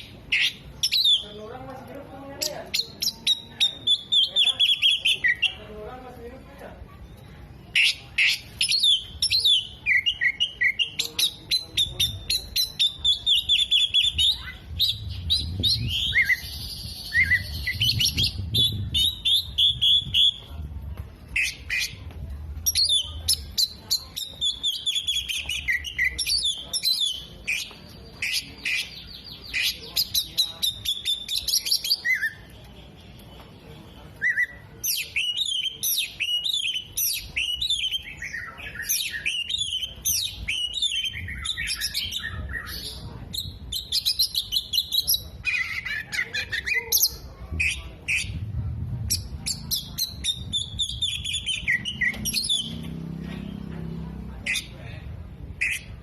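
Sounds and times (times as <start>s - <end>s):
bird singing varied song: 0.0s - 5.9s, 7.0s - 20.6s, 21.2s - 53.7s.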